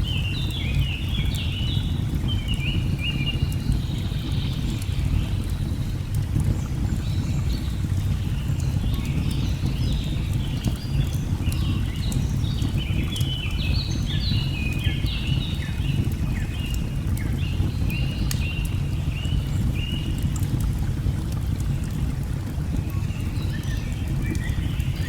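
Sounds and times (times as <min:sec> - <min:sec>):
log fire crackling: 0:00.0 - 0:25.0.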